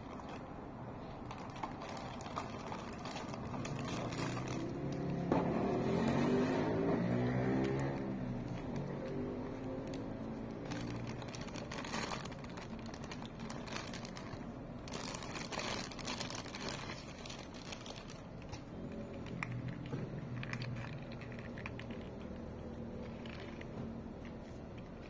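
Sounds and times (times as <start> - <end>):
small clicks and crackles: 0.0 - 0.5, 1.2 - 5.4, 7.0 - 25.0
packaging crinkling and rustling: 0.0 - 25.0.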